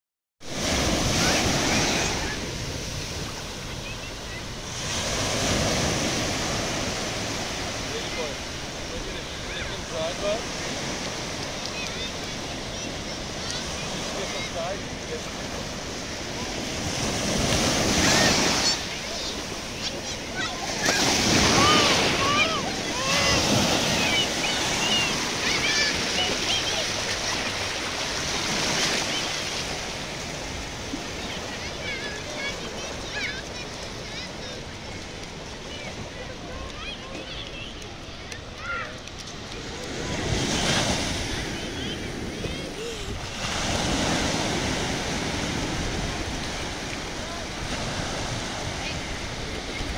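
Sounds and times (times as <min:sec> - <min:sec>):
small waves breaking on sand: 0:00.4 - 0:49.9.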